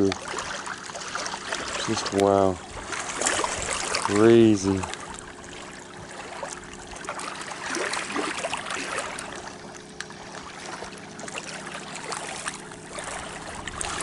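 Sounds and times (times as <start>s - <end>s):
water lapping on stones: 0.0s - 14.0s.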